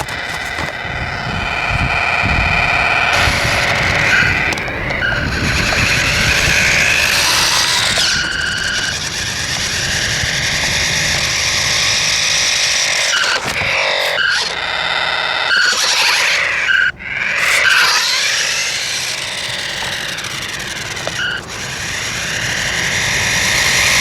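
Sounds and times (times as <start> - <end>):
harsh noisy electronic roar: 0.0 - 24.0.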